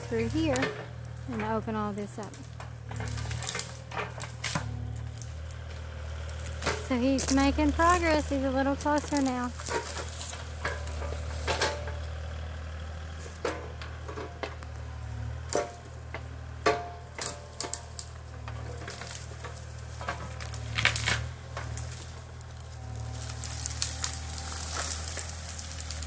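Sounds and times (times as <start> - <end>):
branches crackling and snapping: 0.0 - 26.0
distant excavator engine: 0.0 - 26.0.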